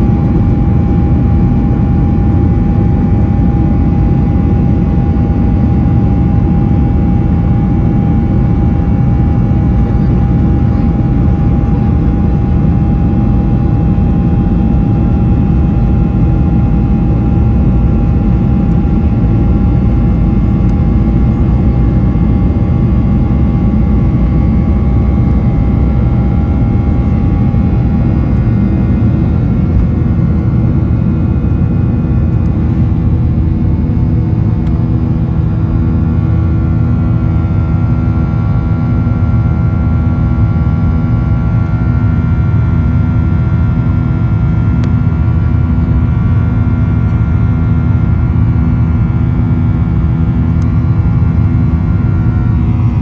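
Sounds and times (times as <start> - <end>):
aircraft engines rumbling: 0.0 - 53.0.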